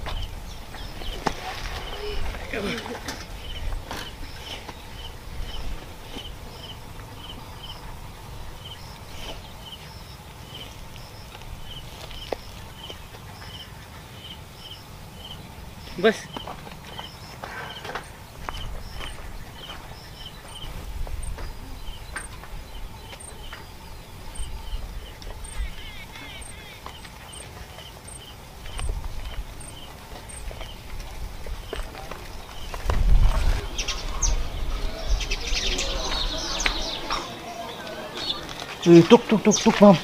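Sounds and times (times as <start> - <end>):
low wind-like rumble: 0.0 - 17.4, 18.0 - 27.4, 28.0 - 37.2.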